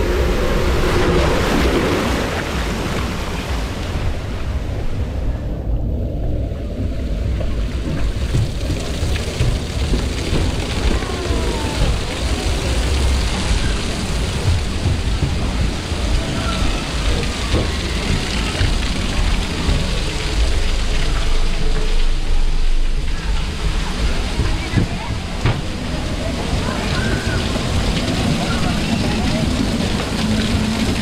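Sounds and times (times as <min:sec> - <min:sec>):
water rushing and spraying: 0:00.0 - 0:31.0.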